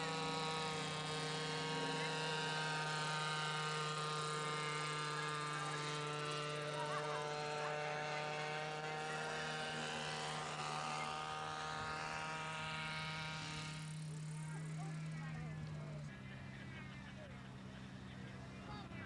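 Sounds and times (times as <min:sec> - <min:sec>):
model helicopter engine whine: 0:00.0 - 0:19.0.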